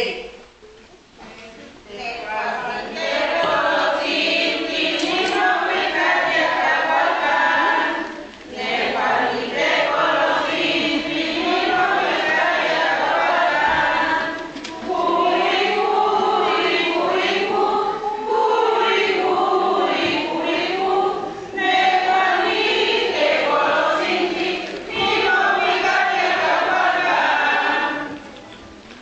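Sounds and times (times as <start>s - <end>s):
group of people singing: 1.9s - 28.4s.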